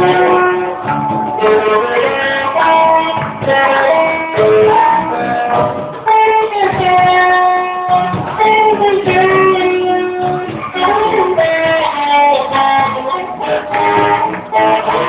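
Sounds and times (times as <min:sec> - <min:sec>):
guitar accompaniment: 0:00.0 - 0:15.0
sliding held melody notes: 0:00.0 - 0:15.0.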